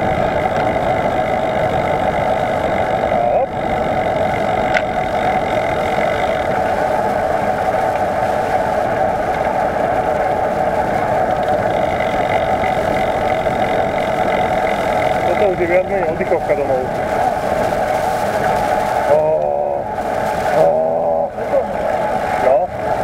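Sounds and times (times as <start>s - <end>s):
mid-pitched hum: 0.0s - 23.0s
wind rumbling over microphone: 0.0s - 23.0s.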